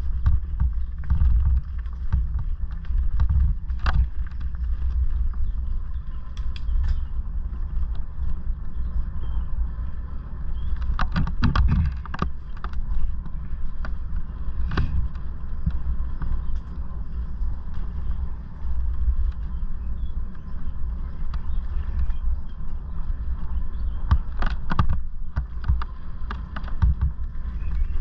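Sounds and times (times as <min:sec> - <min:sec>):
bike clattering: 0:00.0 - 0:09.4, 0:10.5 - 0:28.0
tyres on gravel: 0:00.0 - 0:28.0
wind rumble on microphone: 0:00.0 - 0:28.0.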